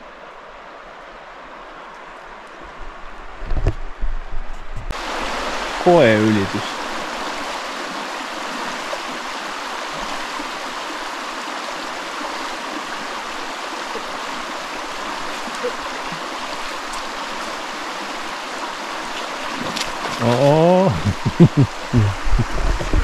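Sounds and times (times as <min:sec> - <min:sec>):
river water rushing over stones: 0:00.0 - 0:03.4, 0:04.9 - 0:23.0.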